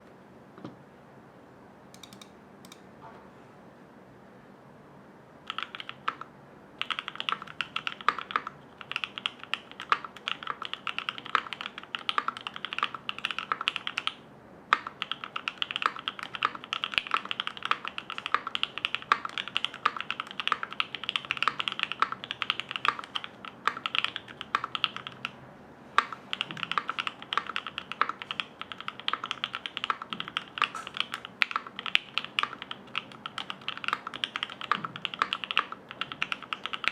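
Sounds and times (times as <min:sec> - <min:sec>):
fast typing on mechanical keyboard: 0:05.5 - 0:25.4, 0:26.0 - 0:36.9.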